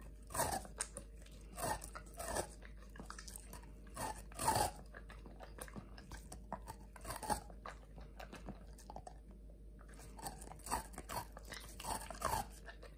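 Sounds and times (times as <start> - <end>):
dog crunching ice pop: 0.0 - 12.9
dog licking: 0.0 - 12.9.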